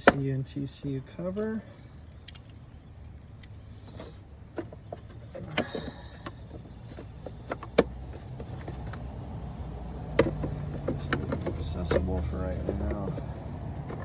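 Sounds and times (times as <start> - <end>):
parts clicking and knocking: 0.0 - 0.4, 1.3 - 14.0.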